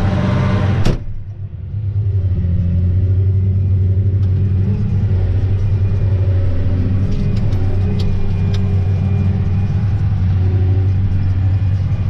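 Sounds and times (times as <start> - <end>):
tractor engine droning under load: 0.0 - 12.0.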